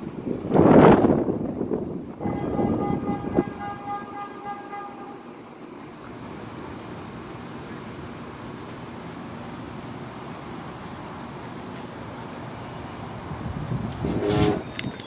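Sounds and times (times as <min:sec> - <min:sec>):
urban background rumble and hiss: 0:00.0 - 0:15.0.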